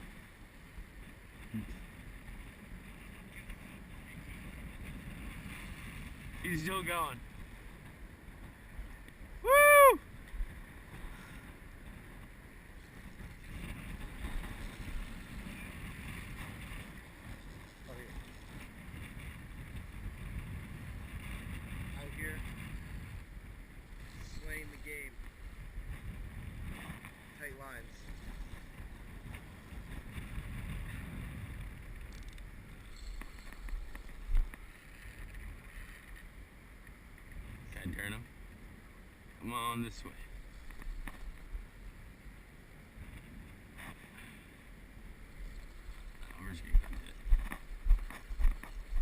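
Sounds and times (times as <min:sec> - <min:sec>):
water: 0:00.0 - 0:49.0
wind noise on microphone: 0:00.0 - 0:49.0.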